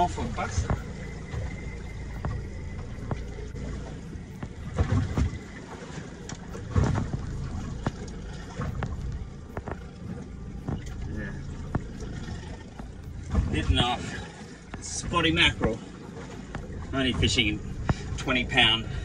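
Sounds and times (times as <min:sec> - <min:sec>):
low rumble: 0:00.0 - 0:19.0
water sloshing against boat hull: 0:00.0 - 0:19.0.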